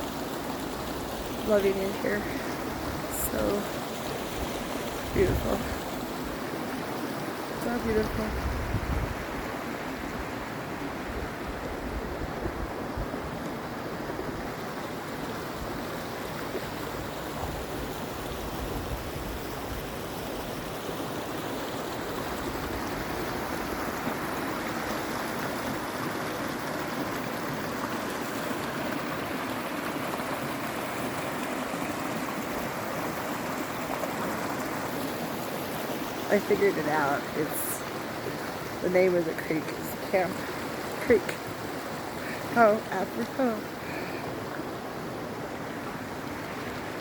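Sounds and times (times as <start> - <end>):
creek water rushing: 0.0 - 47.0.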